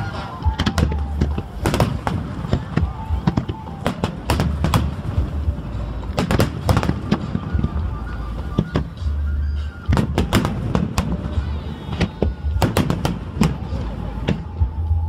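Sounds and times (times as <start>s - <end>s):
fireworks bangs: 0.0s - 14.8s
low rumble: 0.0s - 15.0s.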